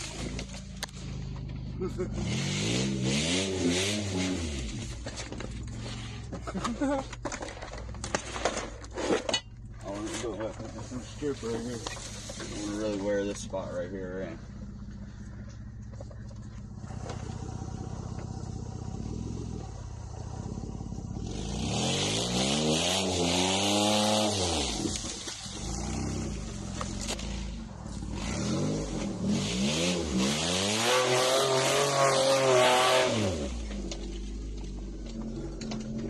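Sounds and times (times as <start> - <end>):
suv engine revving: 0.0 - 36.0.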